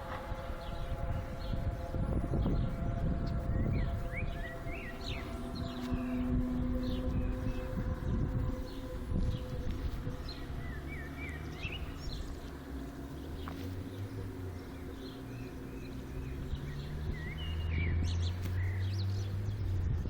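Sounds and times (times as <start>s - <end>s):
birds chirping: 0.0s - 20.0s
low droning hum: 0.0s - 20.0s.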